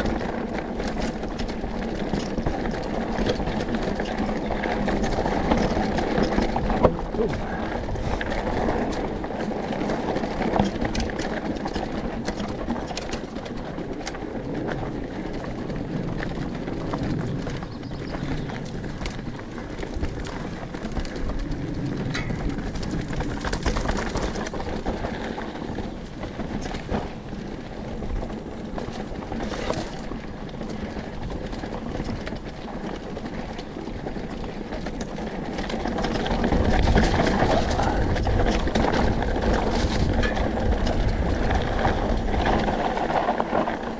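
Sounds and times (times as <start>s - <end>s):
bike clicks and rattles: 0.0s - 43.9s
bike tyres rolling on dirt: 0.0s - 43.9s.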